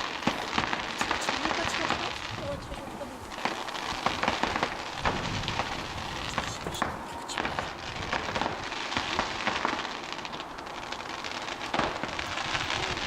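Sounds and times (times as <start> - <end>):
fireworks bangs and crackles: 0.0 - 13.0
steady rushing noise: 0.0 - 13.0.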